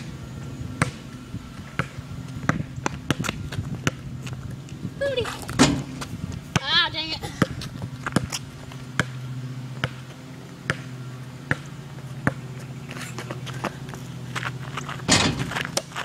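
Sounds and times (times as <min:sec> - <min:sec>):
low hum: 0:00.0 - 0:06.6, 0:07.2 - 0:16.0
basketball bouncing on asphalt: 0:00.0 - 0:16.0
sneakers scuffing on pavement: 0:01.0 - 0:16.0.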